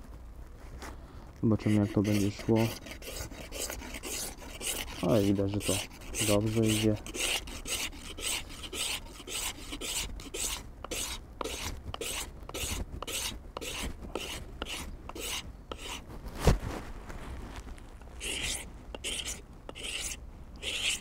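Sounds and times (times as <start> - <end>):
knife blade scraping wood: 1.6 - 16.0, 18.2 - 21.0.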